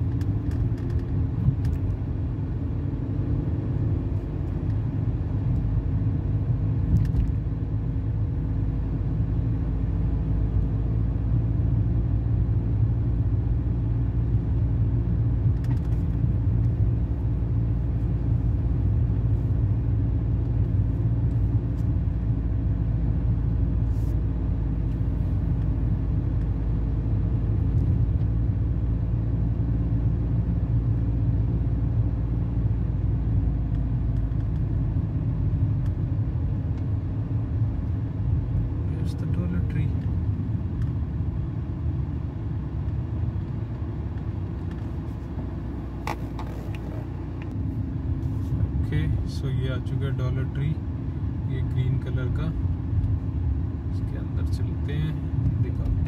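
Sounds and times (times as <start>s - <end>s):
road rumble inside car: 0.0s - 56.0s.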